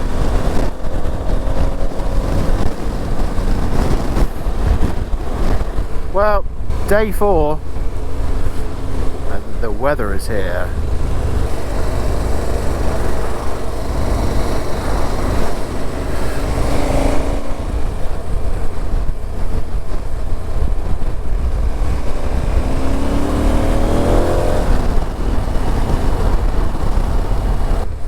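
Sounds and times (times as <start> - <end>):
motorcycle engine accelerating: 0.0 - 28.0
wind buffeting microphone: 0.0 - 28.0.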